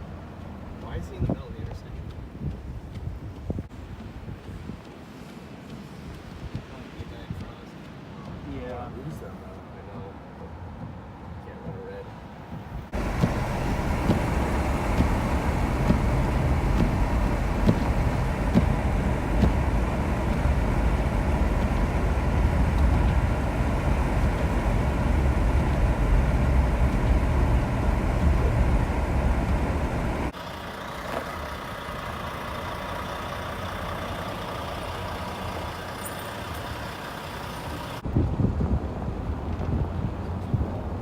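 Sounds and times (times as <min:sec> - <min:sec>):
road noise: 0:00.0 - 0:41.0
vehicle engine rumbling: 0:00.0 - 0:41.0.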